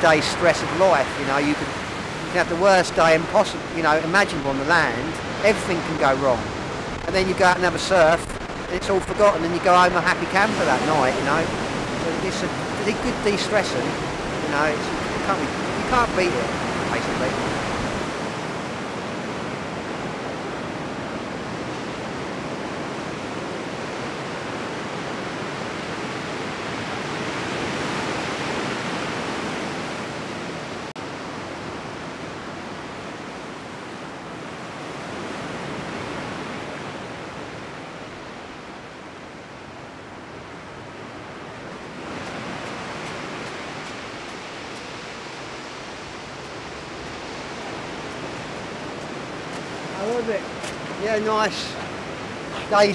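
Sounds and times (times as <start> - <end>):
sea waves breaking in surf: 0.0 - 52.9.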